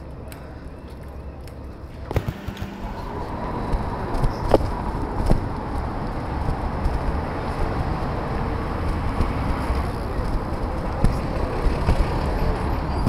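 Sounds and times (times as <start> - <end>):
cars and trucks passing: 0.0 - 13.0.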